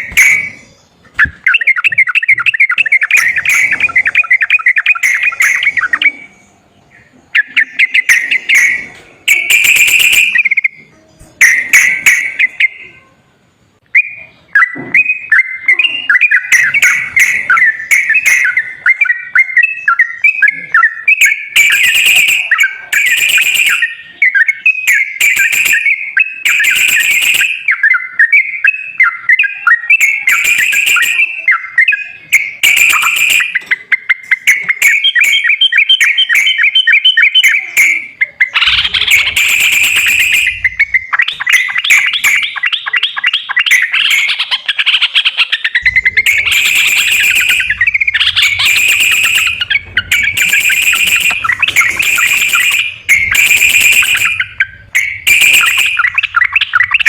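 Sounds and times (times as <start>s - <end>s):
bird chirping and trilling: 0.0s - 57.0s.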